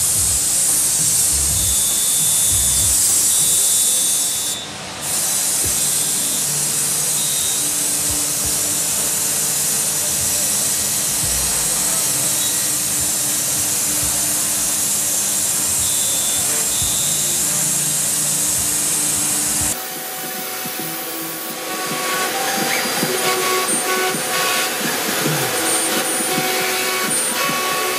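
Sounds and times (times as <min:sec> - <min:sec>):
router spindle cutting wood: 0:00.0 - 0:27.9.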